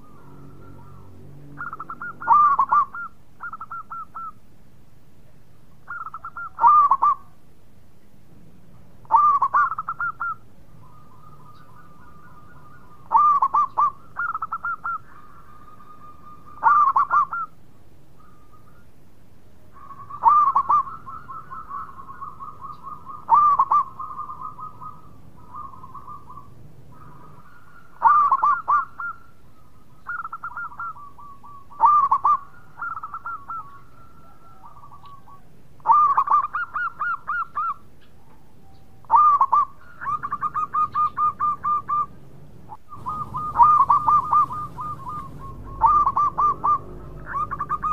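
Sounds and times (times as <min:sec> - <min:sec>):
doves cooing: 0:00.0 - 0:04.4, 0:05.8 - 0:07.4, 0:09.0 - 0:17.6, 0:19.7 - 0:47.9.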